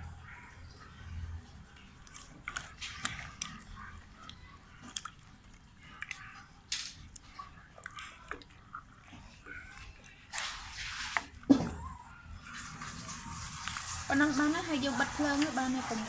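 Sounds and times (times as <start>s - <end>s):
wet squelching of peppers: 0.1s - 16.0s.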